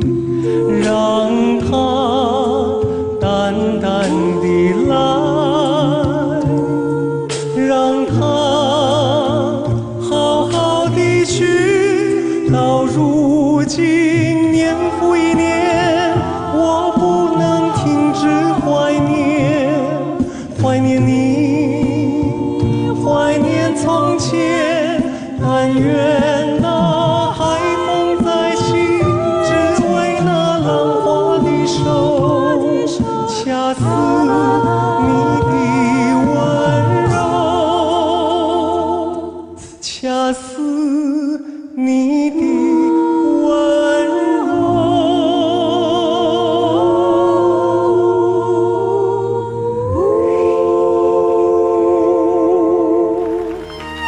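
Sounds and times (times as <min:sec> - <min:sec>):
slow ballad with vocal harmony: 0:00.0 - 0:54.0.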